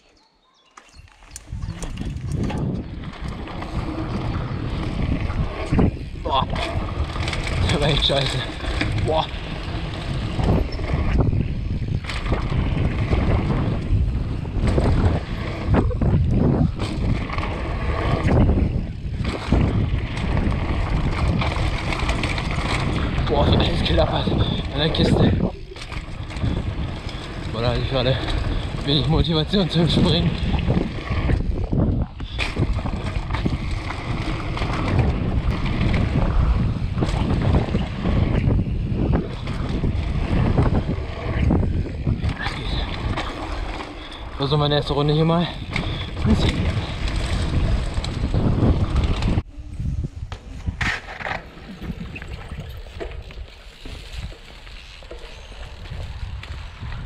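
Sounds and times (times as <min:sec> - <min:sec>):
bike clattering and rattling: 0:00.8 - 0:57.0
wind buffeting microphone: 0:00.9 - 0:57.0
tyres rumbling on gravel: 0:01.3 - 0:49.5, 0:50.5 - 0:57.0.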